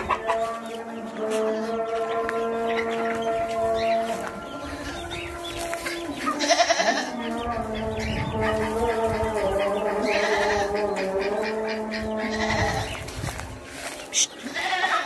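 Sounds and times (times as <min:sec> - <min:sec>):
goats bleating: 0:00.0 - 0:13.1, 0:14.1 - 0:15.0.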